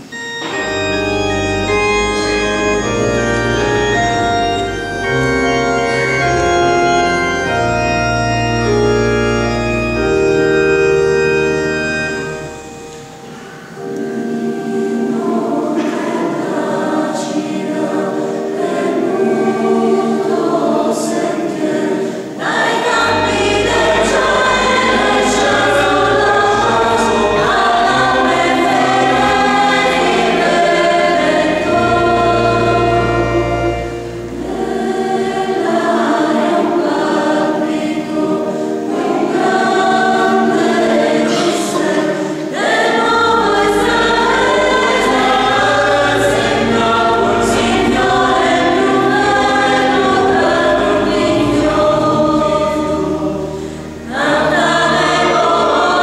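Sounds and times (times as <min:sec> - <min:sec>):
choir singing: 0:00.0 - 0:56.0
organ: 0:00.0 - 0:56.0.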